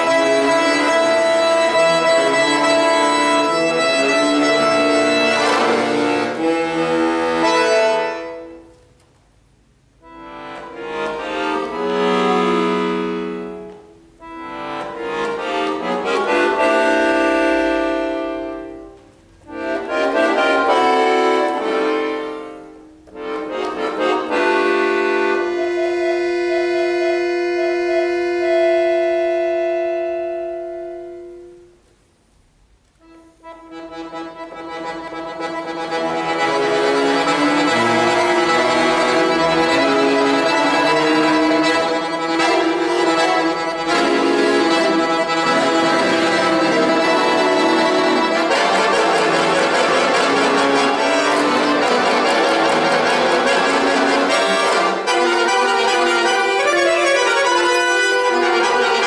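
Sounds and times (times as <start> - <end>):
accordion playing chords: 0.0 - 32.0, 32.6 - 59.0.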